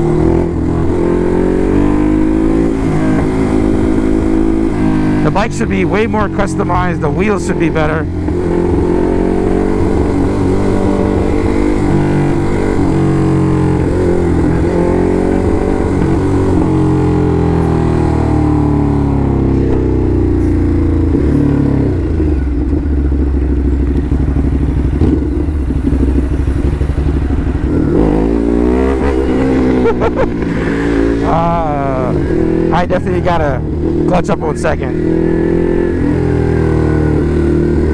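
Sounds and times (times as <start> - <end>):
motorcycle engine accelerating: 0.0 - 37.9.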